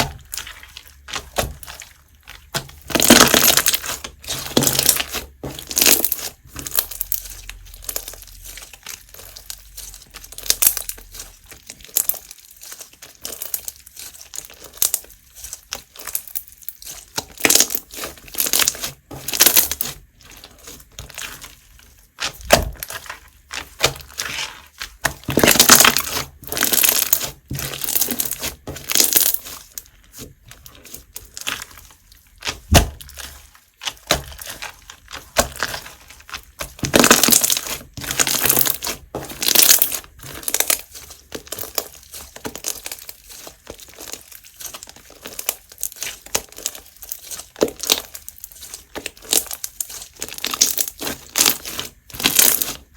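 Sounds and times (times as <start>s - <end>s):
crunchy slime being squeezed: 0.0s - 52.9s.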